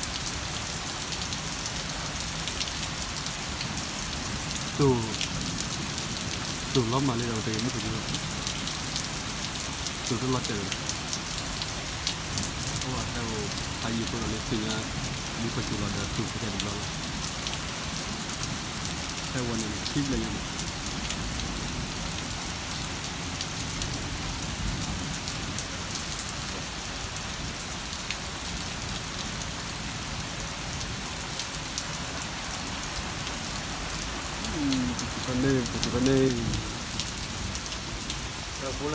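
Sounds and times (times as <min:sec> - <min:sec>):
heavy rain falling: 0:00.0 - 0:38.9
close raindrop ticks: 0:00.1 - 0:24.0, 0:31.3 - 0:38.9.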